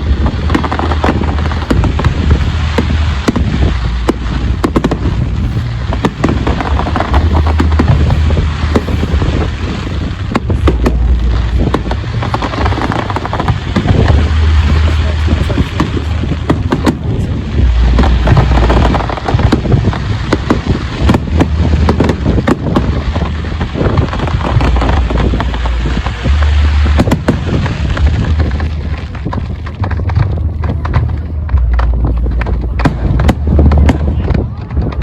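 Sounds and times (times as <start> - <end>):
fireworks booming: 0.0 - 35.0
fireworks crackling: 0.0 - 35.0.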